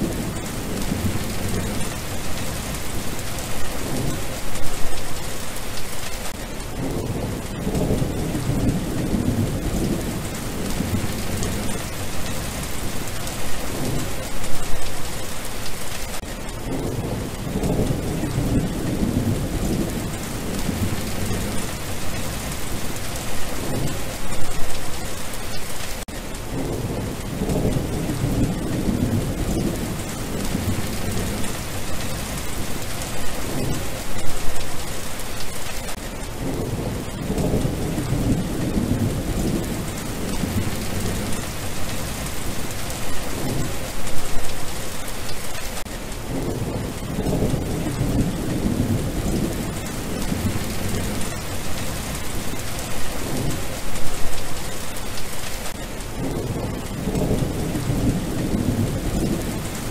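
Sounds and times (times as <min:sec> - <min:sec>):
rain falling on wet ground: 0:00.0 - 0:59.9.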